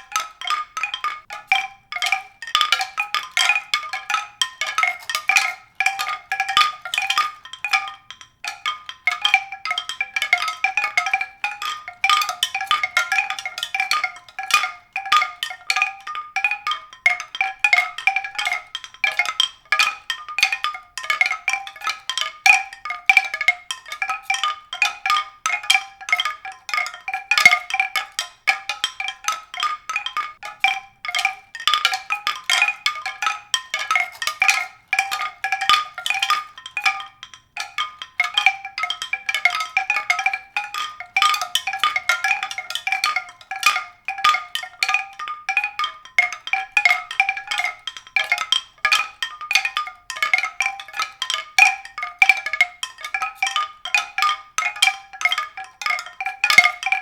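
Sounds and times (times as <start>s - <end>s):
high tuned percussion notes: 0.0s - 57.0s.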